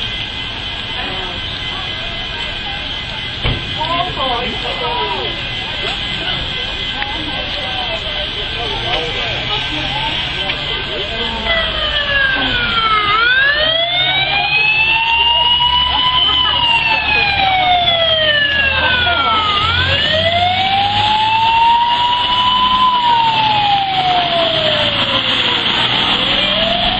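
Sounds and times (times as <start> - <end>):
fire truck siren wailing: 0.0 - 26.9.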